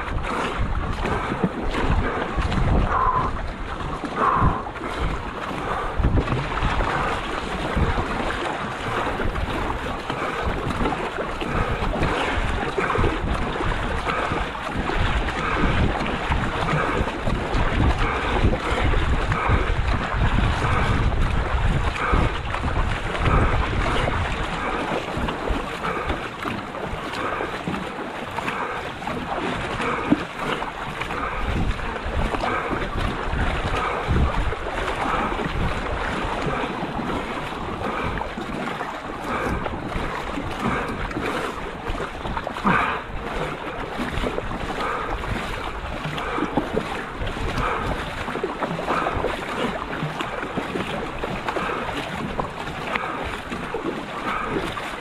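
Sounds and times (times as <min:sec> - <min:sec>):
paddle strokes splashing: 0:00.0 - 0:55.0
water rushing along hull: 0:00.0 - 0:55.0
wind buffeting microphone: 0:00.0 - 0:55.0.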